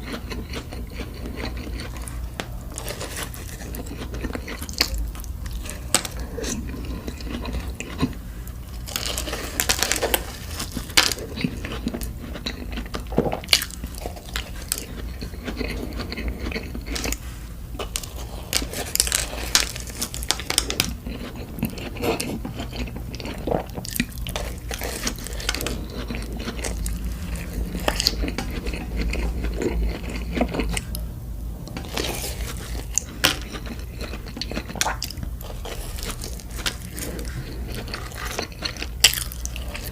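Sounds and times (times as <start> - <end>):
biting and chewing donuts: 0.0 - 39.9
steady low hum: 0.0 - 39.9.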